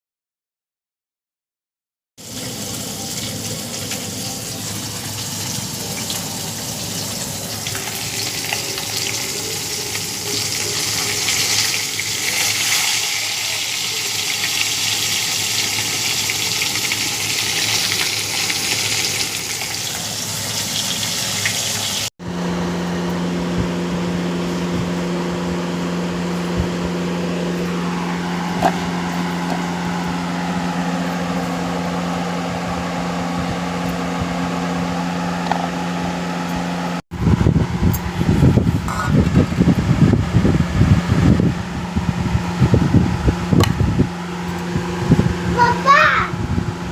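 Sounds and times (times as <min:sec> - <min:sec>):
machine hum: 0:02.2 - 0:46.9.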